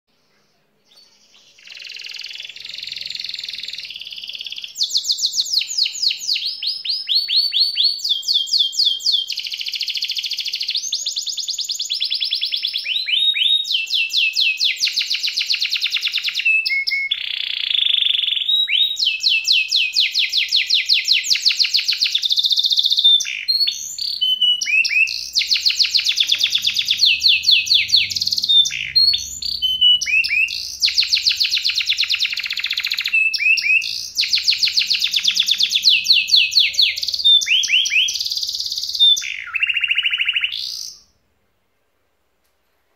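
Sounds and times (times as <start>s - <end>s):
canary singing trills: 0.9s - 41.2s.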